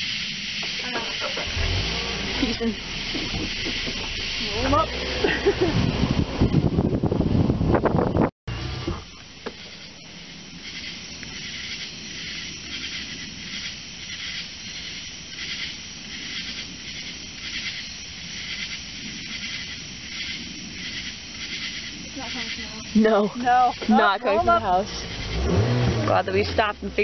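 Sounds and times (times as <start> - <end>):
night insects chorusing: 0.0 - 6.4, 8.5 - 27.0
low rumble: 0.0 - 27.0.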